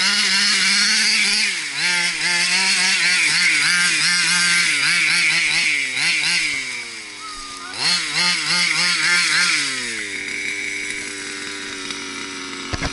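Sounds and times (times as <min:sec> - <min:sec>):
small two-stroke engine revving: 0:00.0 - 0:12.9.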